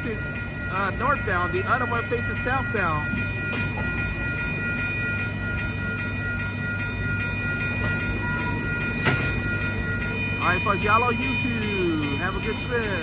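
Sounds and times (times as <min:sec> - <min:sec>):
passenger train rumbling past: 0:00.0 - 0:13.0.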